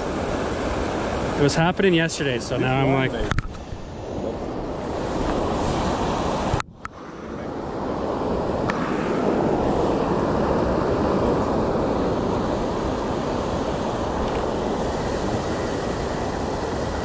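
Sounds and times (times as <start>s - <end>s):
water rushing over weir: 0.0s - 17.0s.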